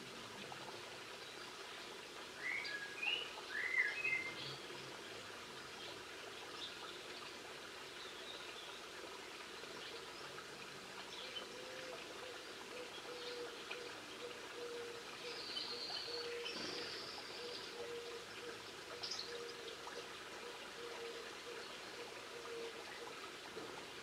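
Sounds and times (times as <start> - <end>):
faint outdoor hiss: 0.0 - 24.0
songbirds chirping: 0.4 - 23.3.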